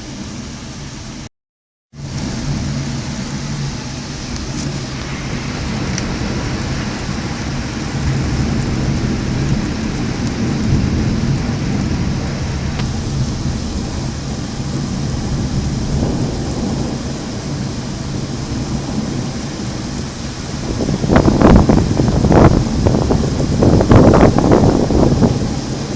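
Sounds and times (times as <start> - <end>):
heavy rain: 0.0 - 1.3, 1.9 - 25.9
thunder rumbling: 2.0 - 25.9.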